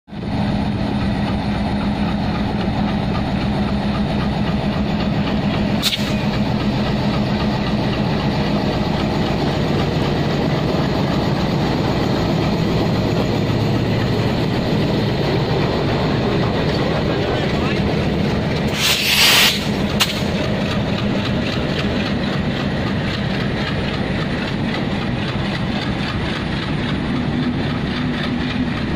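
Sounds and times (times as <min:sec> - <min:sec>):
diesel locomotive engine drone: 0:00.1 - 0:28.9
train wheels clattering on rails: 0:00.1 - 0:28.9.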